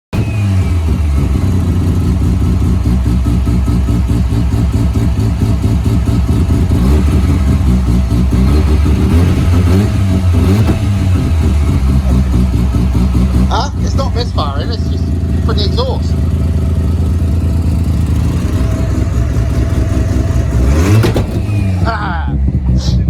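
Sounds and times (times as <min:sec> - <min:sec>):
rotary engine choppy idle: 0:00.1 - 0:23.0.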